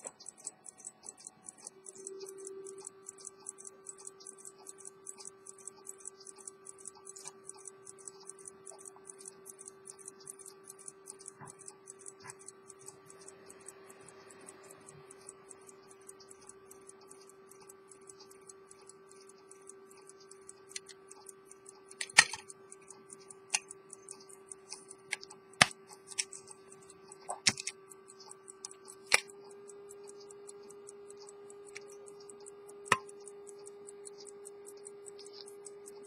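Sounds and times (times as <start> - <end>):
pocket watch ticking: 0.0 - 36.0.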